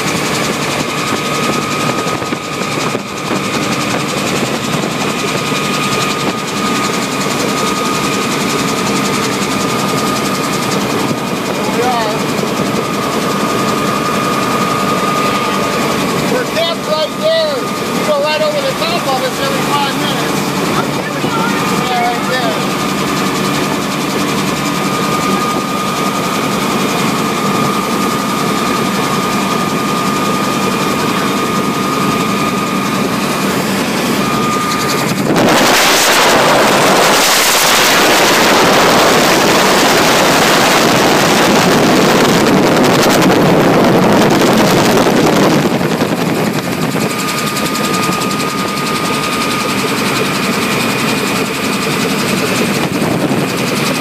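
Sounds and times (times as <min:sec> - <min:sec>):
wind noise on microphone: 0:00.0 - 0:16.5, 0:20.2 - 0:54.0
helicopter engine and rotor: 0:00.0 - 0:54.0
high whine: 0:00.0 - 0:54.0.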